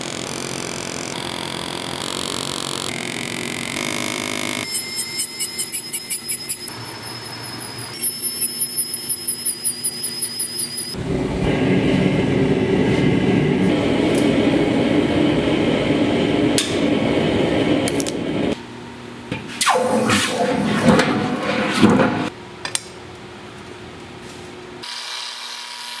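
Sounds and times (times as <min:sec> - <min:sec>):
noisy mechanical sound: 0:00.0 - 0:26.0.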